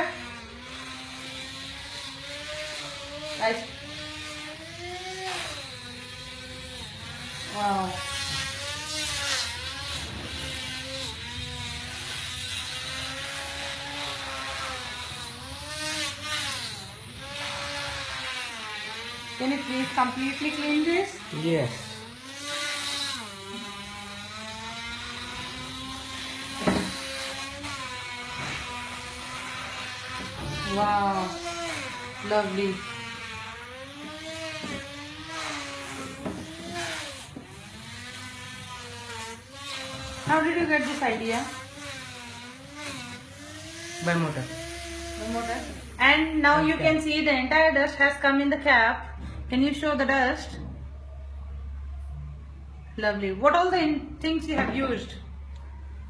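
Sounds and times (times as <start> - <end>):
small motor whining: 0.0 - 48.0.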